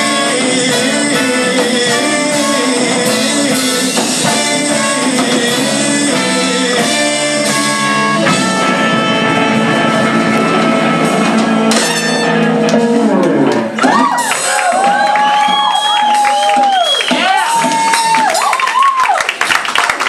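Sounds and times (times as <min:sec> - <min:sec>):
live rock band playing: 0:00.0 - 0:18.9.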